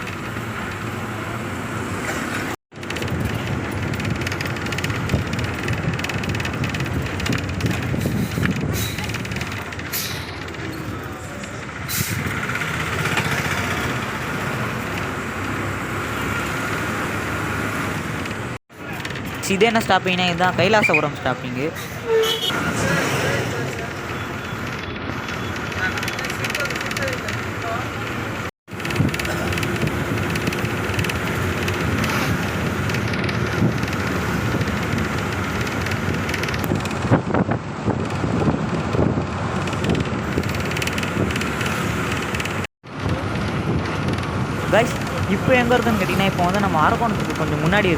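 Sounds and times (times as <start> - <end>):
bus engine rumble: 0.0 - 47.9
road noise: 0.0 - 47.9.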